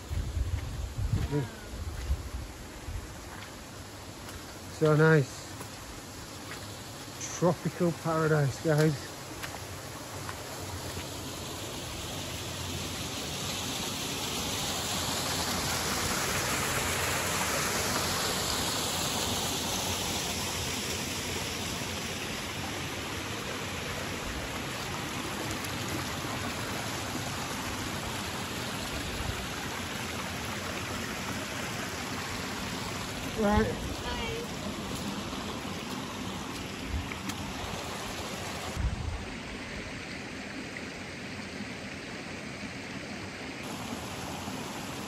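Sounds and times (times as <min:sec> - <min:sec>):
water rushing: 0:00.0 - 0:45.0.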